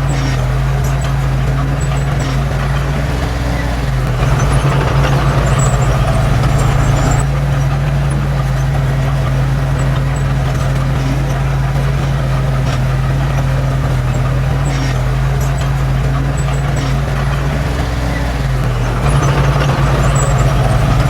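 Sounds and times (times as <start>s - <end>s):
heavy machinery diesel engine: 0.0s - 21.0s.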